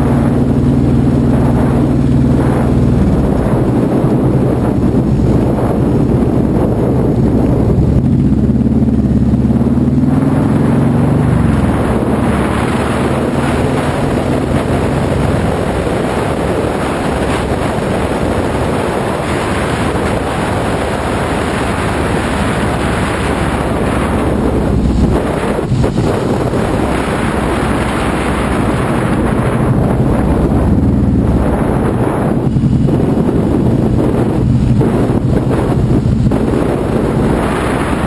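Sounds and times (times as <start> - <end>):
vehicle engine running: 0.0 - 38.0
wind rush on microphone: 0.0 - 38.0.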